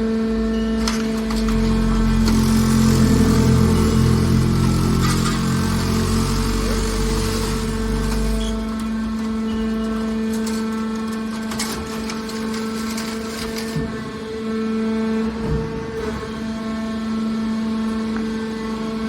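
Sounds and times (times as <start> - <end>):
hydraulic baler humming: 0.0 - 19.0.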